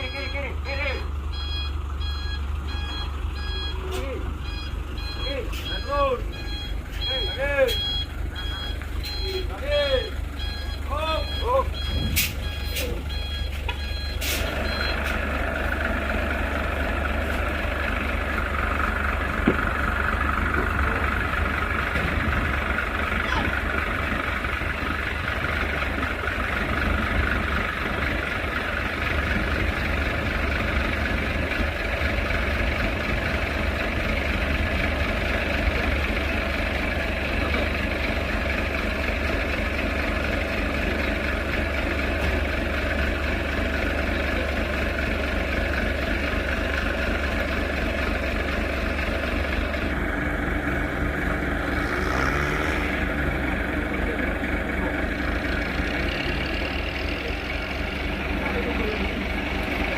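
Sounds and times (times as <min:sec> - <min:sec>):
truck diesel engine running: 0:00.0 - 0:59.9.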